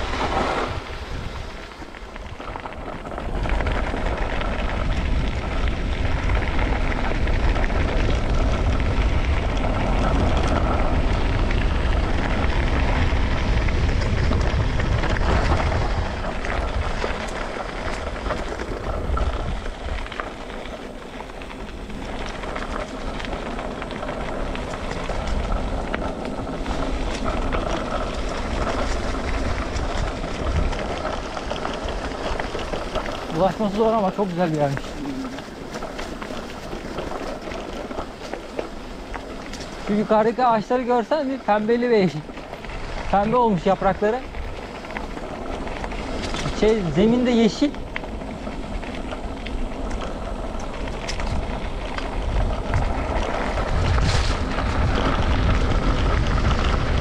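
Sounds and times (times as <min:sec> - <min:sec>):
bike tyres crunching on gravel: 0:00.0 - 0:57.0
wind rumble on microphone: 0:00.0 - 0:57.0.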